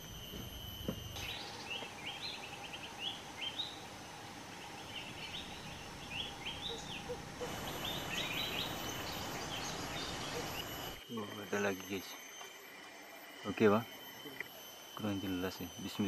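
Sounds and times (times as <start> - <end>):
steady background hiss: 0.0 - 16.0
birds chirping: 1.1 - 16.0.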